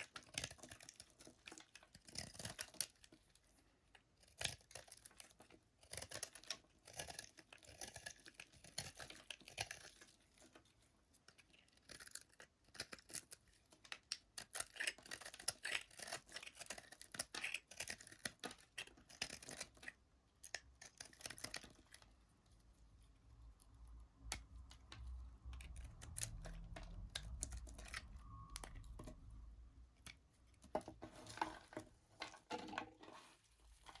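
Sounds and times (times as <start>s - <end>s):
knife cutting bar soap: 0.0s - 22.2s, 23.6s - 29.3s.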